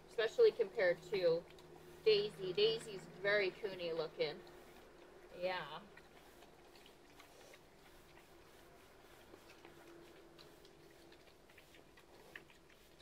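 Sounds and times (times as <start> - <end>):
pigs crunching feed: 0.2 - 13.0.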